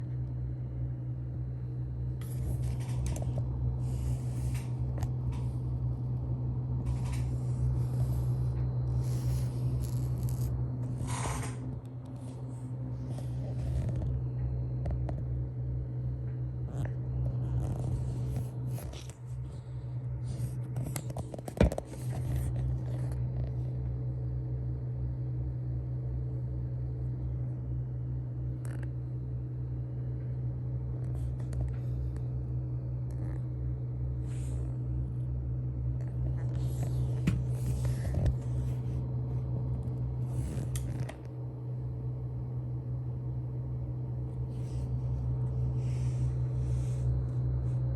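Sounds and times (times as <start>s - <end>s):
computer fans humming: 0.0s - 47.9s.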